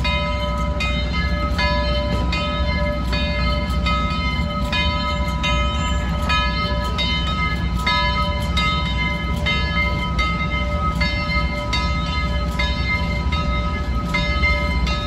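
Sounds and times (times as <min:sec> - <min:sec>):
locomotive bell ringing: 0:00.0 - 0:15.0.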